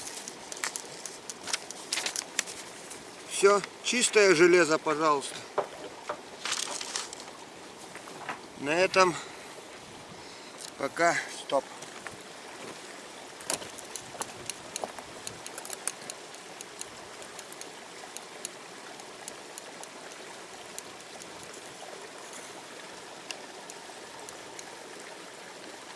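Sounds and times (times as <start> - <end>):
river rushing: 0.0 - 25.9.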